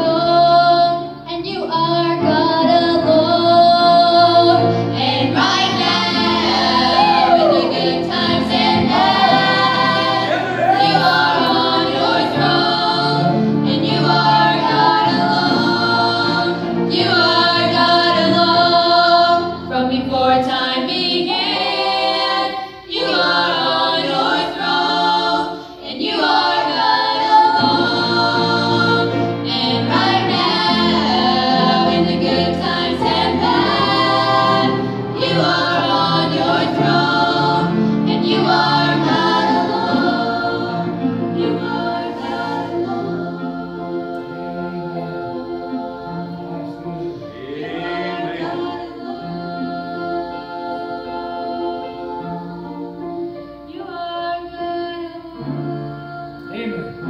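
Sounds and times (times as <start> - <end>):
low keyboard accompaniment: 0.0 - 57.0
voices singing in harmony: 0.0 - 57.0.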